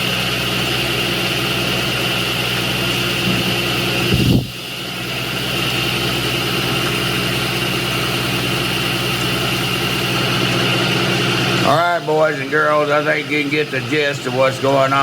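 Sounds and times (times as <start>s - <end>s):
milling machine humming and whining: 0.0s - 15.0s.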